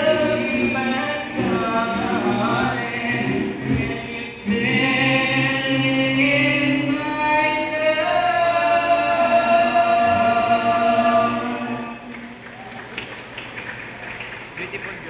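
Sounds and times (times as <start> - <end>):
choir singing chords: 0.0 - 12.4.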